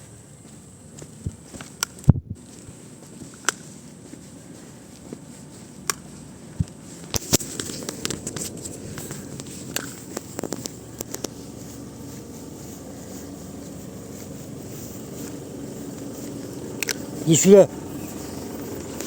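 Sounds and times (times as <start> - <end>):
footsteps walking: 0.0 - 19.0
outdoor hiss: 0.0 - 19.0.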